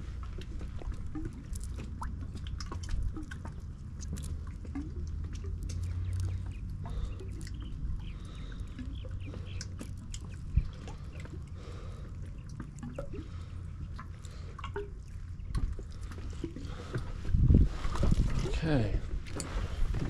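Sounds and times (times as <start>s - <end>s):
low steady hum: 0.0s - 20.0s
water lapping against boat: 0.0s - 20.0s.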